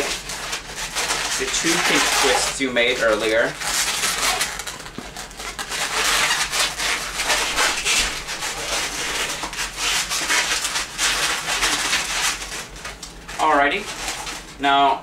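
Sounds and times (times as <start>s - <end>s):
rubber balloons rubbing: 0.0s - 14.7s.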